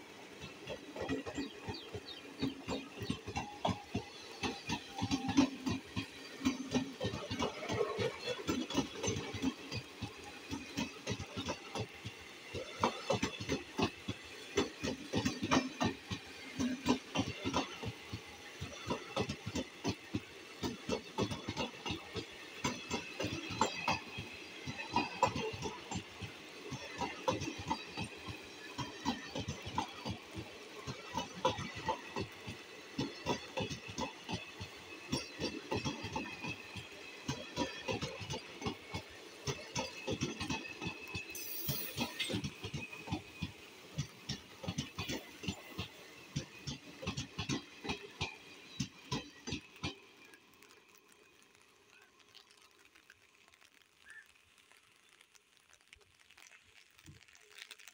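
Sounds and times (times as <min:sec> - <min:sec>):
train wheels clattering on rails: 0:00.0 - 0:52.3.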